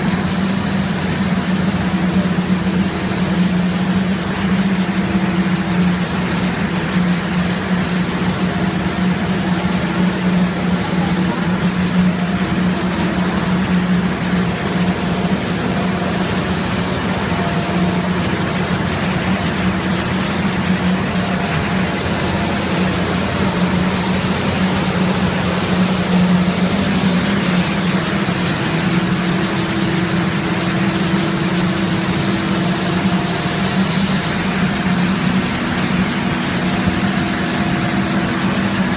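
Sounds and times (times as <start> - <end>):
recycling machine drone: 0.0 - 38.9.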